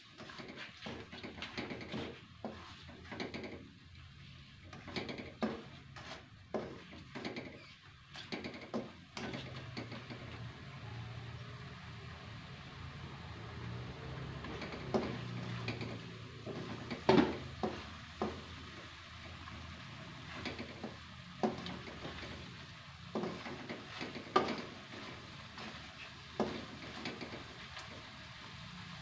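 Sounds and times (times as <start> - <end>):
spatula scraping and knocking a wok: 0.0 - 11.8, 12.4 - 28.7
paste sizzling in oil: 0.0 - 29.0.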